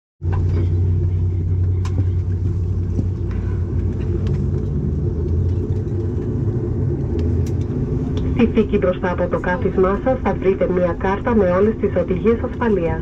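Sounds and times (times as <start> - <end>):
turboprop engines droning: 0.2 - 13.0.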